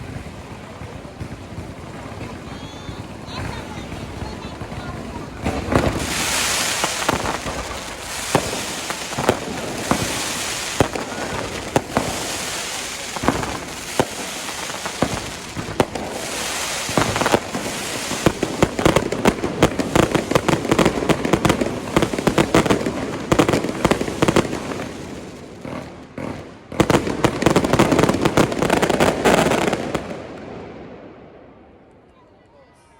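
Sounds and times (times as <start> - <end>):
fireworks bursting and crackling: 0.0 - 32.1.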